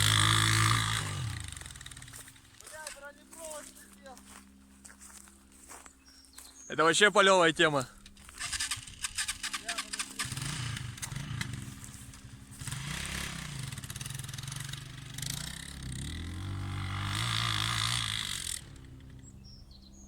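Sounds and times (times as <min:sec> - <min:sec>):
motorcycle engine accelerating: 0:00.0 - 0:04.4, 0:08.1 - 0:20.0.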